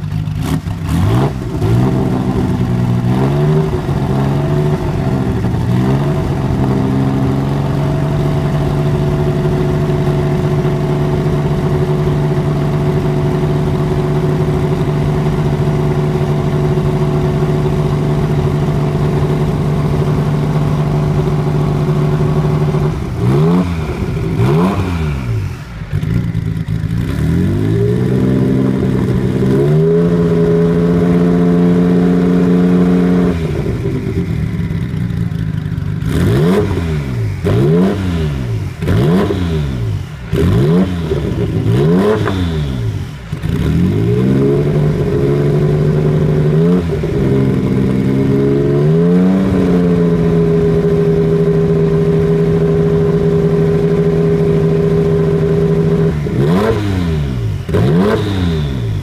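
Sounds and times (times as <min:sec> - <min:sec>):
car engine idling: 0:00.0 - 0:59.0
car engine revving: 0:00.0 - 0:59.0.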